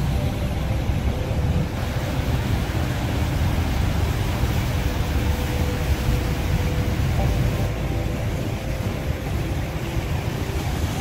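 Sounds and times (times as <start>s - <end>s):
rapids rushing: 0.0s - 11.0s
waterfall roaring: 0.0s - 11.0s.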